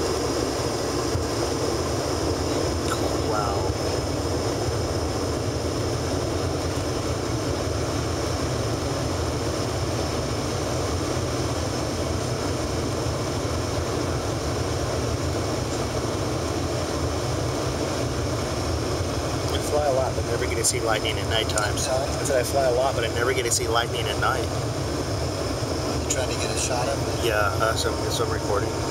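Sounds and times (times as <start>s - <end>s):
jet engine and airflow rumble: 0.0s - 28.9s.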